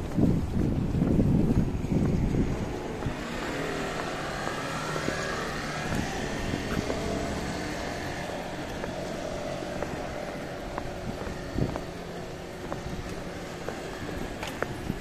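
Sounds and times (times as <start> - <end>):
hum of road vehicles: 0.0 - 15.0
wind rumbling on microphone: 0.0 - 15.0.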